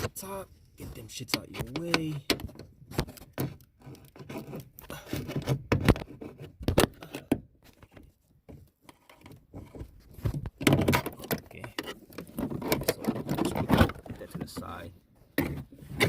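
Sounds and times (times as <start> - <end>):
plastic rubbing and scraping: 0.0 - 16.0.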